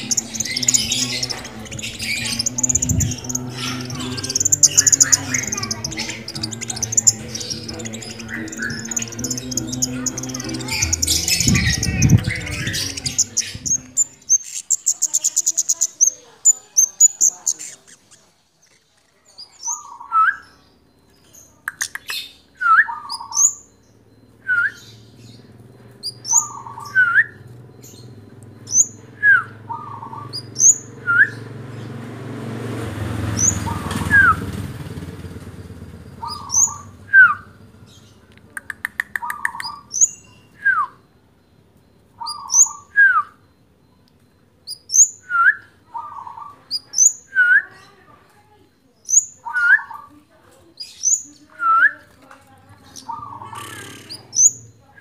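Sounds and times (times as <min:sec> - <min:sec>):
songbird calling: 0:00.0 - 0:55.0.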